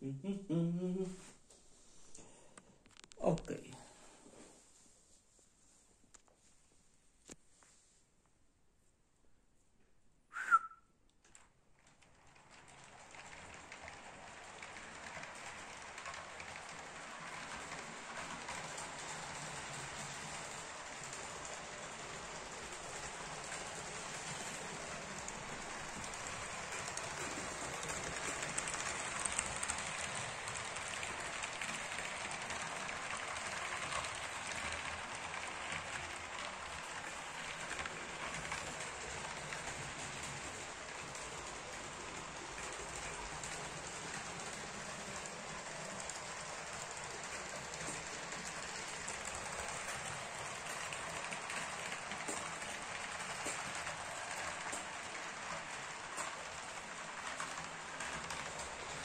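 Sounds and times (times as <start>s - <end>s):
model trains running on track: 11.3s - 59.0s.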